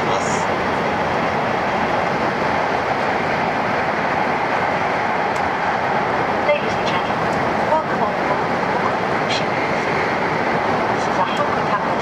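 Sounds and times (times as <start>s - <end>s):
train interior rumble and hiss: 0.0s - 12.0s.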